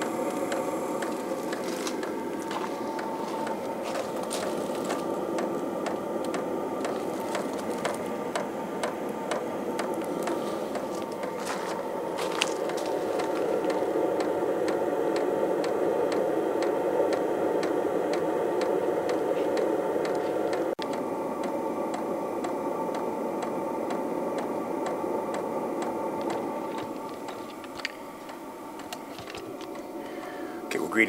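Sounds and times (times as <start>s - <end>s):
fuel pump ticking: 0.0s - 30.5s
heater fan rushing: 0.0s - 31.0s.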